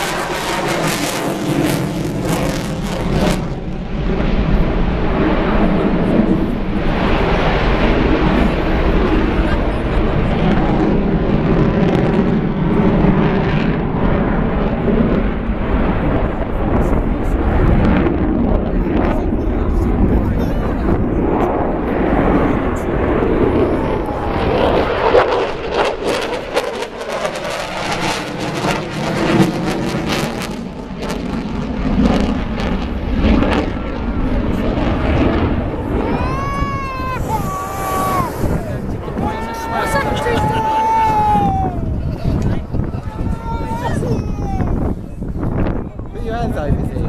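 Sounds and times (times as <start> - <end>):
fighter jet roar: 0.0 - 47.0.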